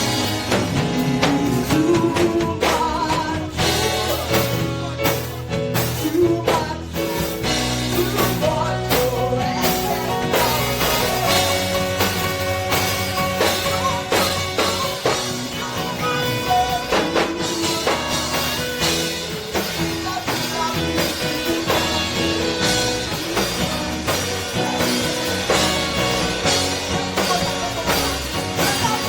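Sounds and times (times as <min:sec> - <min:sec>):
drum kit beat: 0:00.0 - 0:29.0
keyboard and guitar chords: 0:00.0 - 0:29.0.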